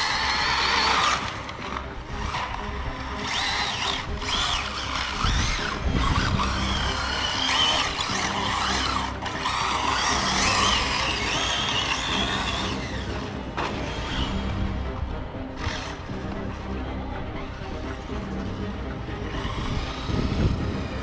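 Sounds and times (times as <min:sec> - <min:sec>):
electric motor whining: 0:00.0 - 0:16.7, 0:17.4 - 0:21.0.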